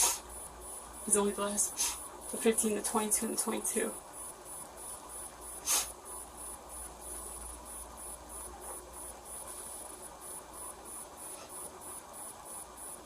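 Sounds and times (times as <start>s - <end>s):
pulsing high-pitched whine: 0.0s - 13.0s.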